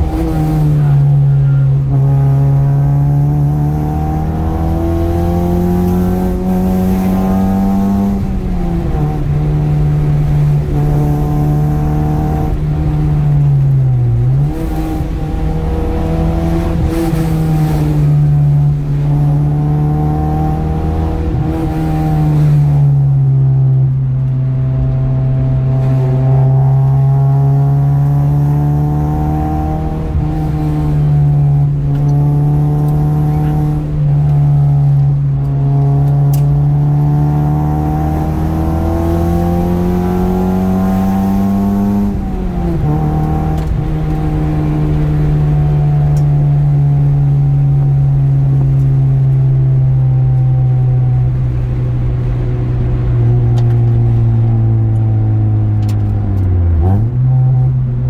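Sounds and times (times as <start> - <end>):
car engine and exhaust droning: 0.0 - 58.0.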